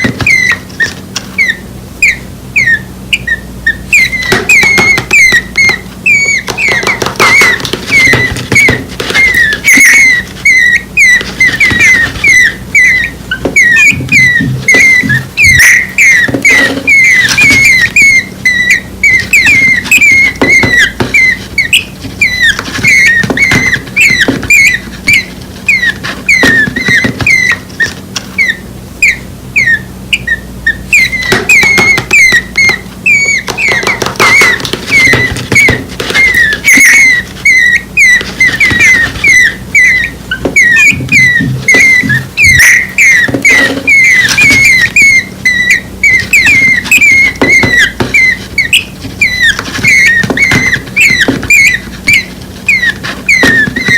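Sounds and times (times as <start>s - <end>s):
nestling birds begging chirps: 0.0s - 53.9s.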